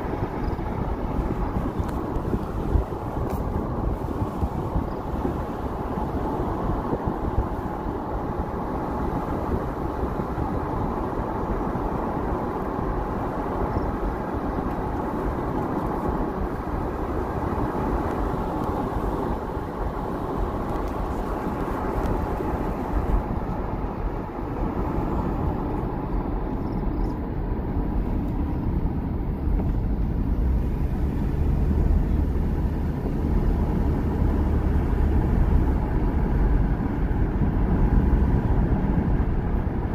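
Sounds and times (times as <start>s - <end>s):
car road noise from inside: 0.0s - 39.9s
tyre and engine rumble: 0.0s - 39.9s.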